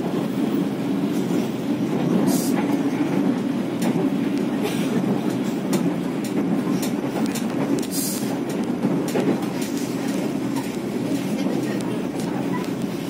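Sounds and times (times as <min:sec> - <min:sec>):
train coach rumbling on track: 0:00.0 - 0:13.0.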